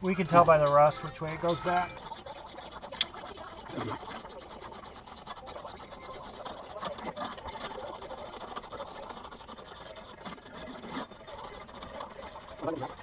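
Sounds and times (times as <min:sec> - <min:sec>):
fast even ticking: 0:00.0 - 0:10.2, 0:11.1 - 0:13.0.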